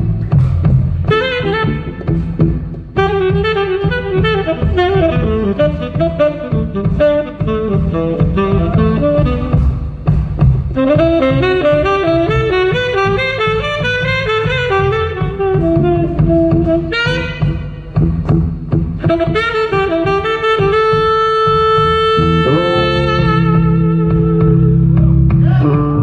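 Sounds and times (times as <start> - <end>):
bass and drums: 0.0 - 26.0
jazz fusion band: 0.0 - 26.0
tenor saxophone soloing: 0.9 - 26.0.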